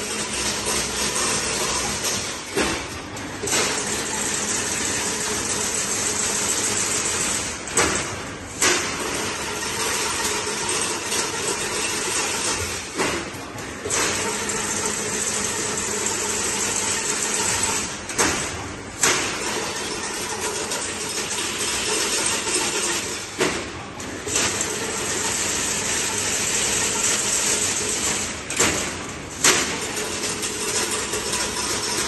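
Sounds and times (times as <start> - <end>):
machine clattering: 0.0 - 32.0.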